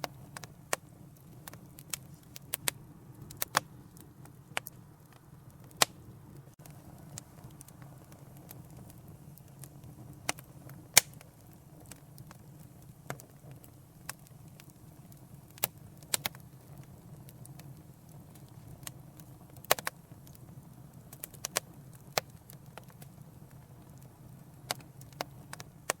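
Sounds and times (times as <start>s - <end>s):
fire pops and snaps: 0.0s - 26.0s
low rumble of flames: 0.0s - 26.0s.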